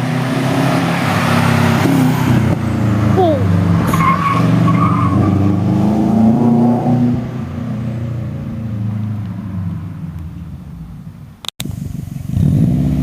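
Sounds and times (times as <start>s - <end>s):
car engine accelerating hard: 0.0s - 10.1s, 11.6s - 13.0s.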